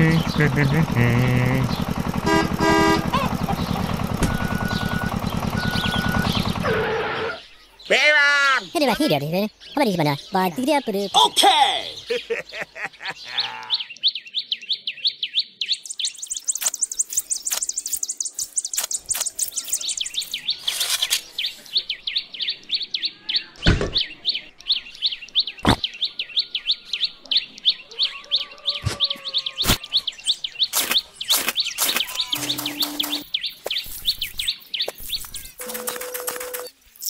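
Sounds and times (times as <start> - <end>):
small birds chirping: 0.0 - 37.0
higher-pitched bird chirping: 3.1 - 7.6, 8.6 - 36.6.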